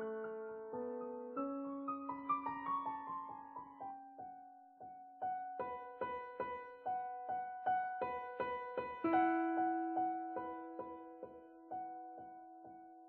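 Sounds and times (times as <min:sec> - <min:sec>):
solo piano playing slowly: 0:00.0 - 0:13.0.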